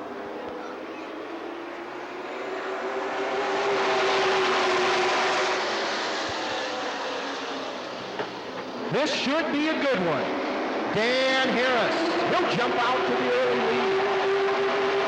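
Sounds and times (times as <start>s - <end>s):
race trucks accelerating: 1.1s - 15.0s.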